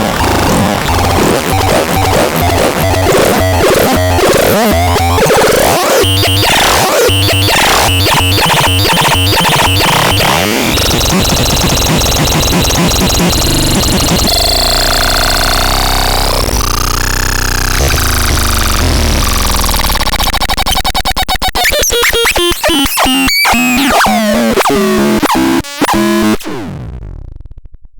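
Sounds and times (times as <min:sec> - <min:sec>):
harsh noisy synthesizer textures: 0:00.0 - 0:27.7
rapid stuttering clicks: 0:00.0 - 0:27.8.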